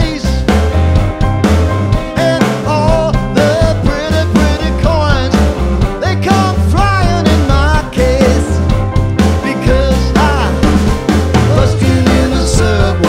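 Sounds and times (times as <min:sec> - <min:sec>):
man singing lead: 0:00.0 - 0:00.6, 0:02.0 - 0:13.0
live rock band playing: 0:00.0 - 0:13.0.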